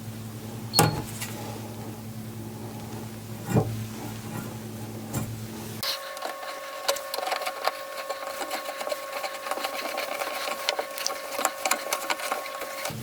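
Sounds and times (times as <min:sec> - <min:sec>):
steady high hum: 0:00.0 - 0:13.0.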